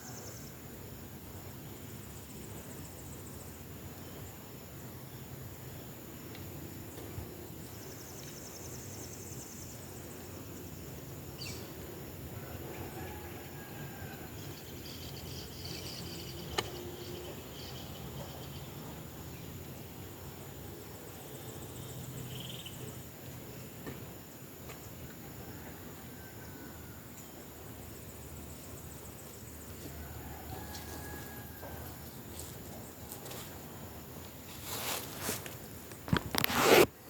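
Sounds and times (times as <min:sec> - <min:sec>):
insects trilling: 0:01.6 - 0:36.4.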